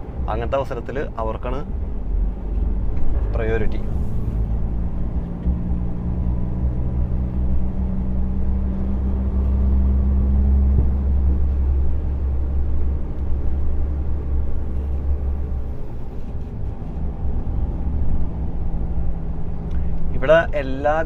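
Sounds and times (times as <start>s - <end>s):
diesel lorry engine drone: 0.0s - 21.0s
low road rumble: 0.0s - 21.0s.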